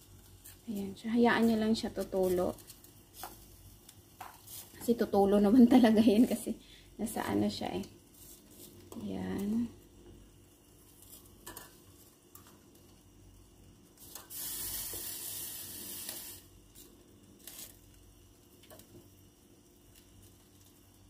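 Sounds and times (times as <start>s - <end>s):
chicken sizzling on a grill: 0.0s - 21.0s.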